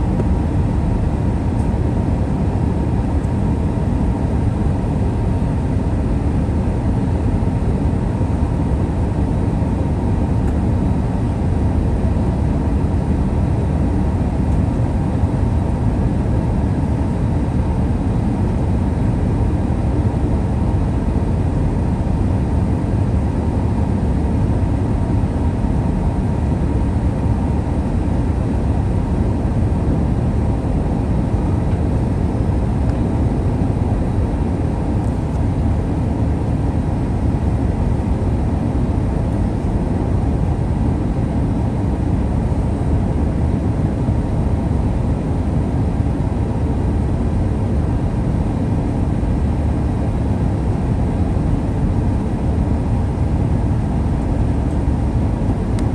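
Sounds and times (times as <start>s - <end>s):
airplane cabin noise: 0.0s - 55.9s.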